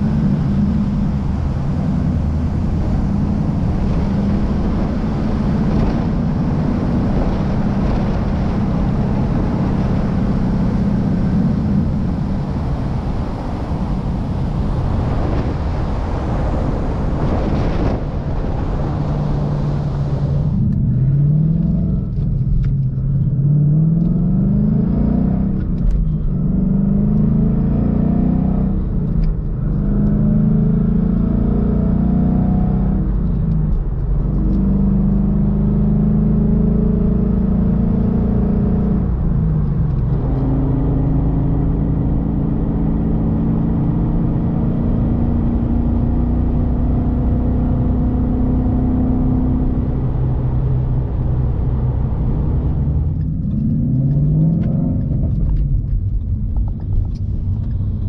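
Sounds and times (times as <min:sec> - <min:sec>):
car engine accelerating through gears: 0:00.0 - 0:58.0.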